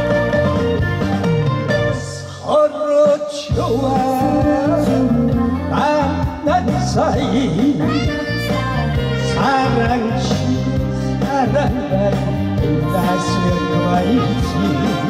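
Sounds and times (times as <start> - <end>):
recorded backing band: 0.0 - 15.0
man singing into microphone: 1.9 - 15.0.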